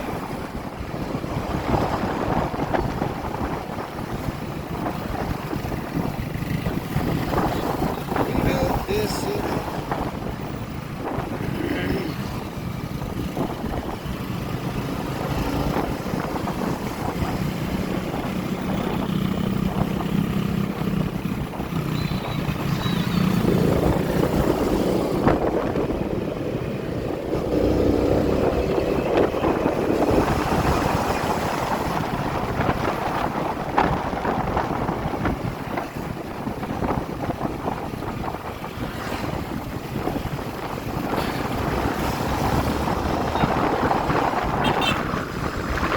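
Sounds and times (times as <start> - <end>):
road noise: 0.0 - 45.9
wind buffeting microphone: 0.0 - 45.9.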